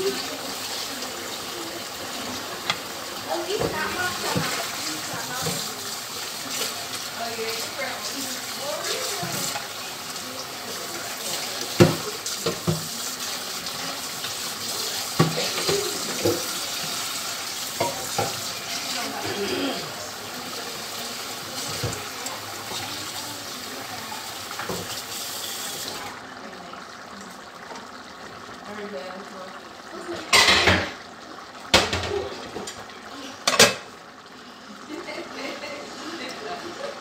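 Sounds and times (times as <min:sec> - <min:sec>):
pot boiling and bubbling: 0:00.0 - 0:37.0.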